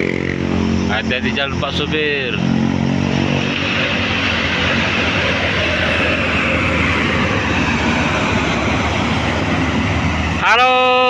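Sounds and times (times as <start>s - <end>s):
heavy diesel truck passing: 0.0s - 11.0s.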